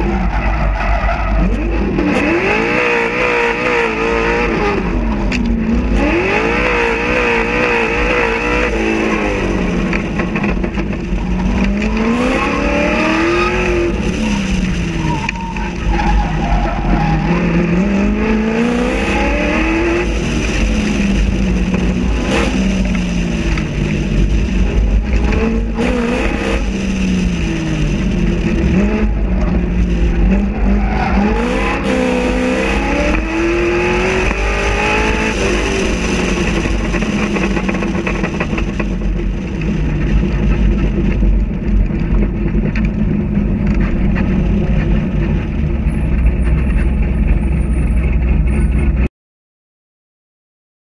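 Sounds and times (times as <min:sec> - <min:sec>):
car engine revving: 0:00.0 - 0:49.1.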